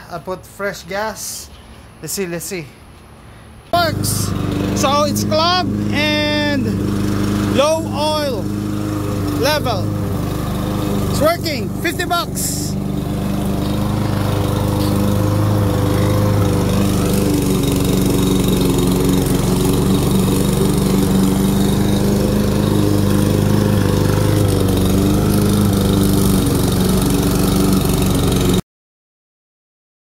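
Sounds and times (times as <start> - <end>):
lawn mower engine running: 3.7 - 28.6.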